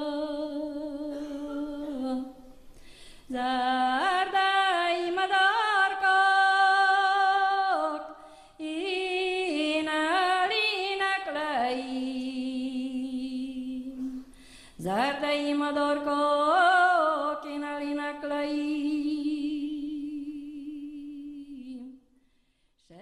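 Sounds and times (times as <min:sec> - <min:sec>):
woman singing folk song unaccompanied: 0:00.0 - 0:22.0, 0:22.8 - 0:23.0.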